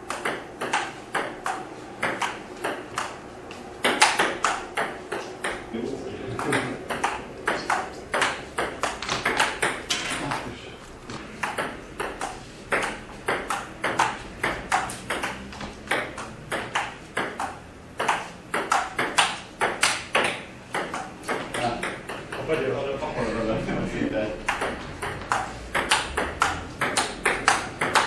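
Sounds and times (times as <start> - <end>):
table tennis ball clicking: 0.1 - 3.2, 3.8 - 5.7, 6.4 - 10.5, 11.4 - 22.5, 24.4 - 28.0.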